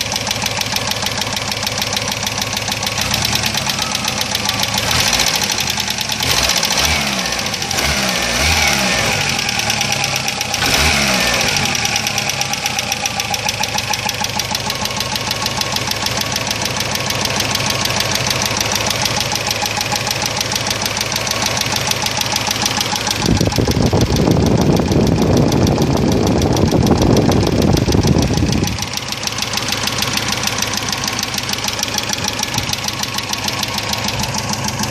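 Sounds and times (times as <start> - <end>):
car engine knocking: 0.0 - 34.9.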